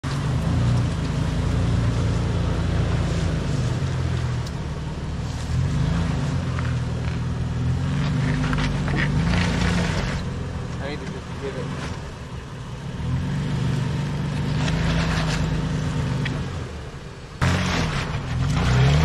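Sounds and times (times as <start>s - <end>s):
suv engine revving: 0.0s - 19.0s.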